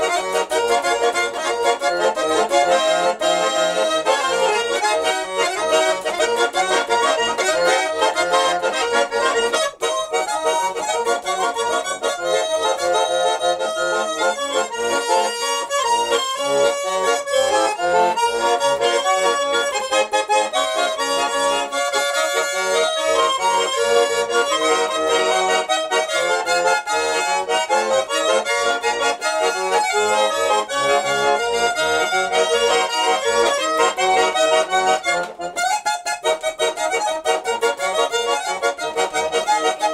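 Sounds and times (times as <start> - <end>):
button accordion melody: 0.0 - 39.9.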